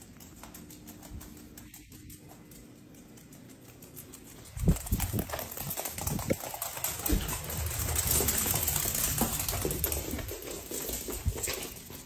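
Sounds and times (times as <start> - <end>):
puppy claws clicking on wooden floor: 0.0 - 12.0.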